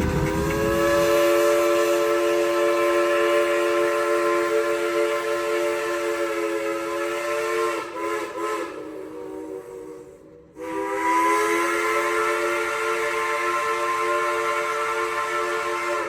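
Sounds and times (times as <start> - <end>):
steam locomotive chime whistle: 0.0 - 16.0.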